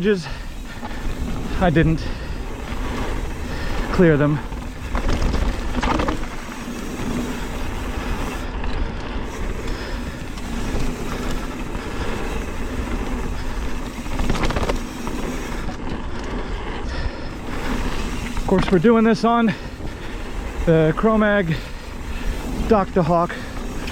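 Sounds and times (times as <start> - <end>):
bike tyres rolling on dirt: 0.0 - 23.9.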